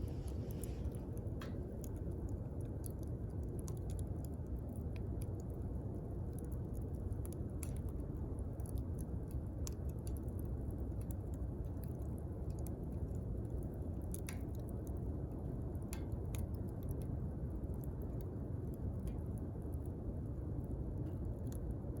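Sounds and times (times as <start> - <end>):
campfire snaps and pops: 0.0 - 22.0
low rumble of burning fire: 0.0 - 22.0.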